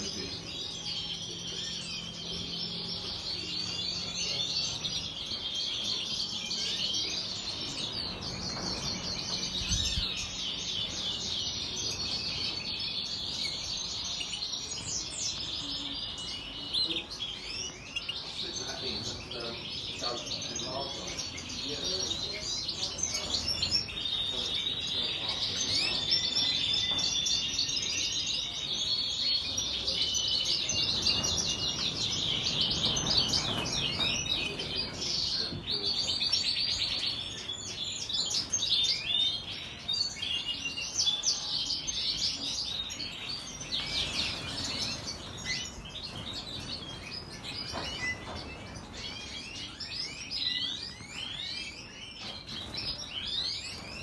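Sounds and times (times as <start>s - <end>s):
finches singing and twittering: 0.0s - 54.0s.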